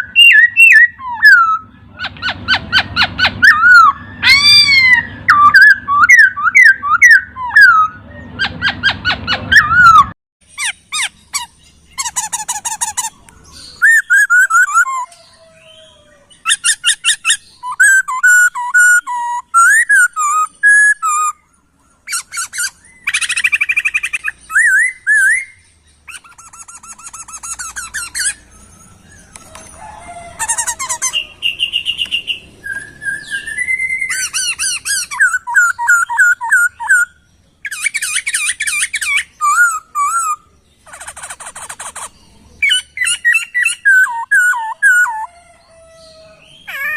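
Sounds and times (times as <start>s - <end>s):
laughingthrush singing: 0.0s - 46.9s.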